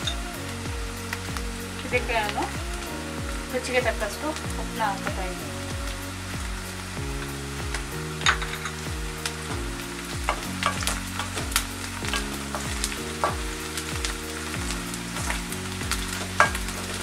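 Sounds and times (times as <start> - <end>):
onions sizzling in oil: 0.0 - 17.0
soft background music: 0.0 - 17.0.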